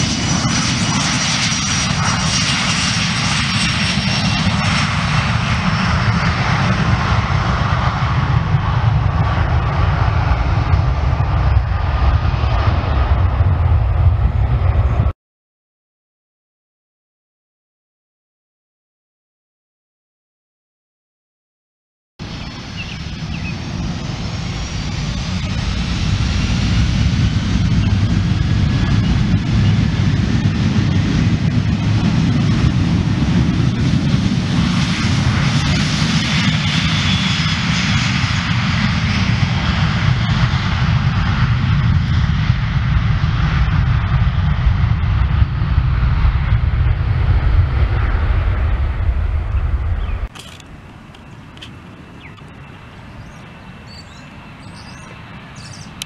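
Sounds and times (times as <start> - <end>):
jet engines at takeoff power: 0.0 - 15.2, 22.2 - 56.0.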